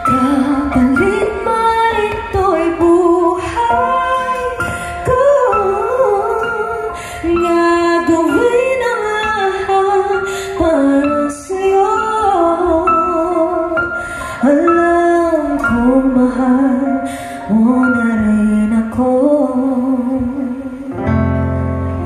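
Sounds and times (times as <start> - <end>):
woman singing: 0.0 - 21.1
instrumental backing: 0.0 - 22.0.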